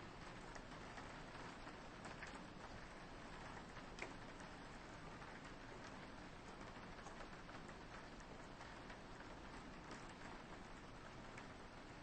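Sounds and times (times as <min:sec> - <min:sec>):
rain on window: 0:00.0 - 0:12.0
raindrop ticks: 0:00.1 - 0:12.0.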